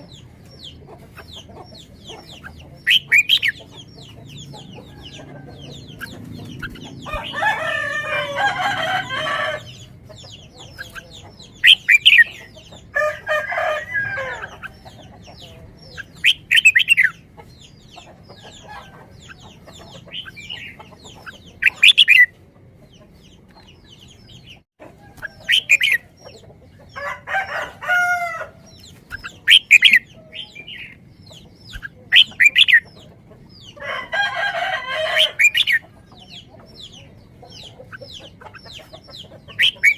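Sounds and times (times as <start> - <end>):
long bird calls: 0.0 - 22.4, 23.0 - 39.9.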